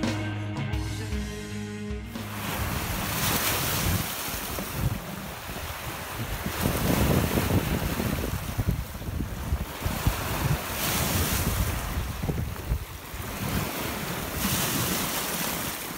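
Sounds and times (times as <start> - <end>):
waves breaking on rocky shore: 2.2 - 15.9
wind rumbling on microphone: 2.3 - 15.9.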